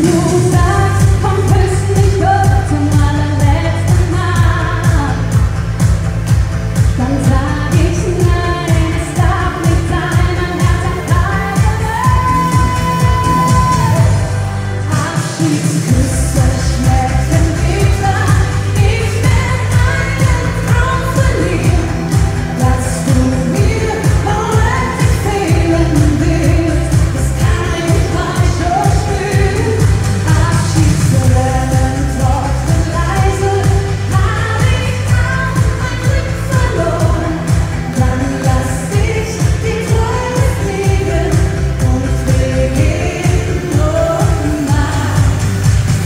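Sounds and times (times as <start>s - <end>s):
woman singing into microphone: 0.0s - 5.9s, 6.7s - 46.0s
dance pop music: 0.0s - 46.0s.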